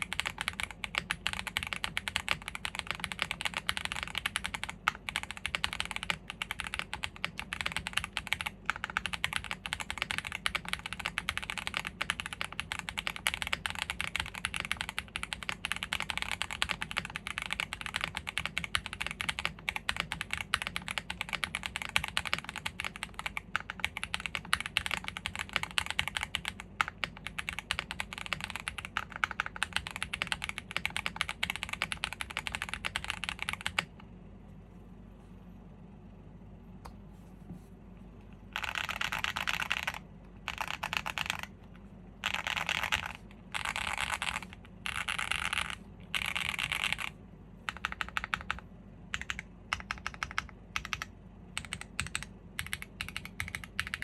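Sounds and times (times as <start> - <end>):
mechanical keyboard typing: 0.0 - 34.0, 38.5 - 54.0.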